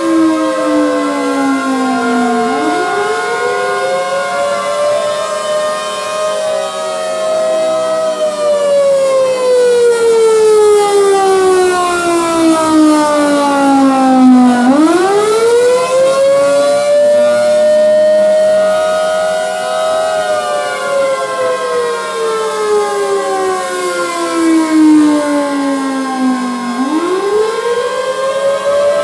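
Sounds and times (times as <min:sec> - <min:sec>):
warning sirens wailing: 0:00.0 - 0:29.0.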